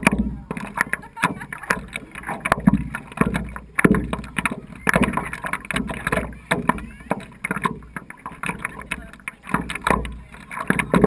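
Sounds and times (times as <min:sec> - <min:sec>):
water slapping against paddleboard: 0:00.0 - 0:11.0.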